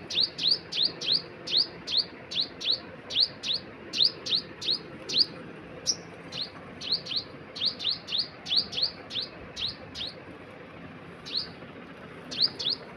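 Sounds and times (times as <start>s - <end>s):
bird chirping: 0.1s - 10.2s, 11.2s - 11.6s, 12.3s - 12.9s.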